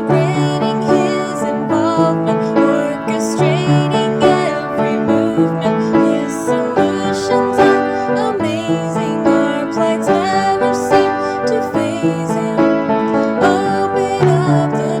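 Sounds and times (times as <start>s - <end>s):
piano accompaniment: 0.0s - 15.0s
woman singing with vibrato: 0.0s - 15.0s.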